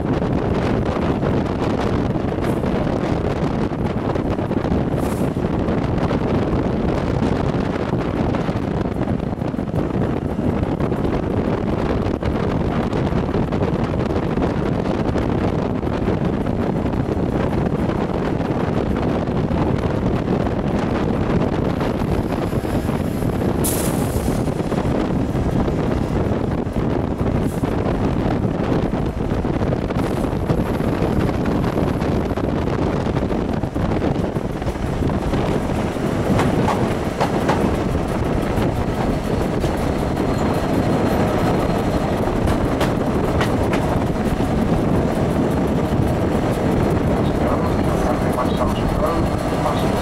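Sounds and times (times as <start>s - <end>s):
train coach running noise: 0.0s - 50.0s
wind rushing over microphone: 0.0s - 50.0s.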